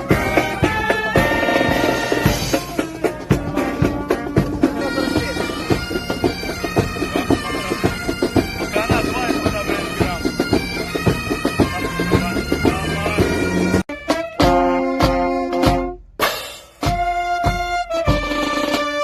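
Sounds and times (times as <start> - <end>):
bagpipes playing: 0.0 - 16.0, 16.8 - 19.0
different music: 0.0 - 19.0
drum strokes: 0.0 - 19.0.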